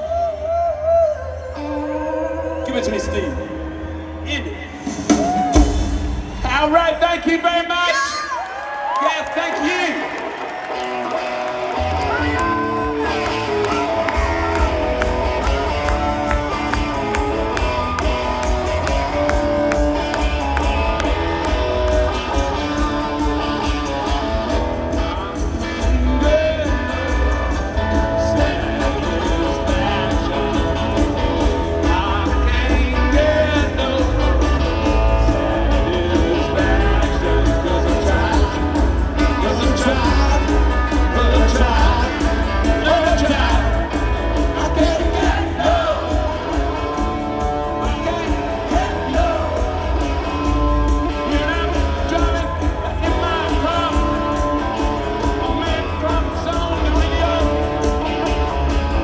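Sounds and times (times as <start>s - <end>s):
person singing: 0.0s - 3.8s, 11.5s - 59.0s
rock band playing: 10.4s - 59.0s.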